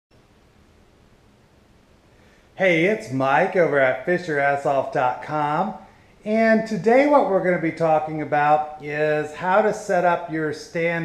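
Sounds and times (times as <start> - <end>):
low room hiss: 0.1 - 11.0.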